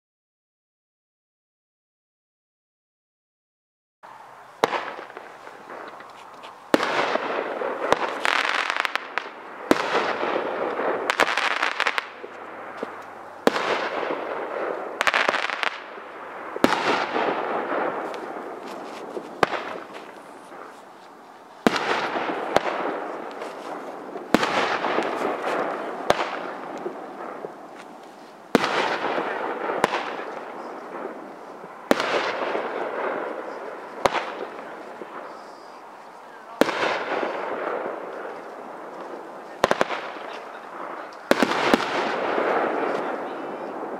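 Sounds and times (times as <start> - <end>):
crackling echoing tail: 4.0 - 43.9.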